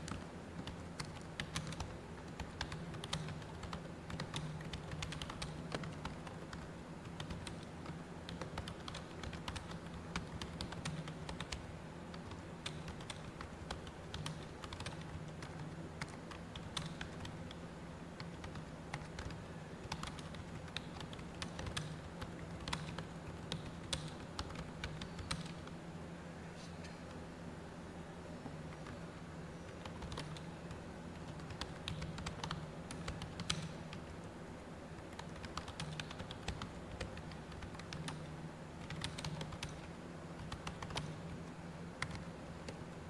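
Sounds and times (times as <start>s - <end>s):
fast keyboard typing: 0.0s - 17.6s, 18.2s - 25.7s, 29.7s - 34.3s, 35.0s - 42.8s
low steady hum: 0.0s - 43.0s.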